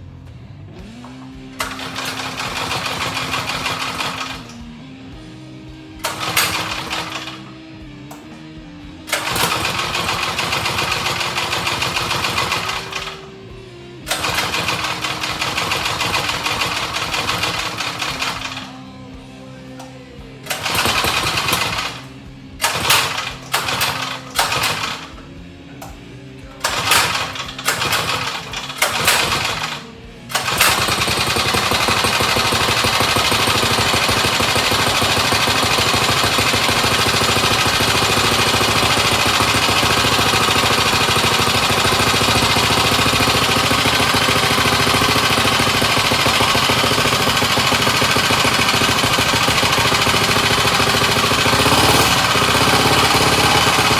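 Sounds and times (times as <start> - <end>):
small engine running: 0.0 - 53.9
small engine pull-starting: 1.0 - 4.7, 6.0 - 7.5, 9.1 - 13.2, 14.0 - 18.8, 20.4 - 25.2, 26.5 - 53.9.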